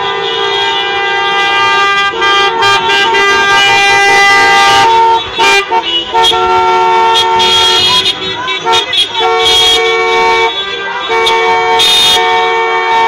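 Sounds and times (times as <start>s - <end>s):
car horns honking: 0.0s - 13.0s.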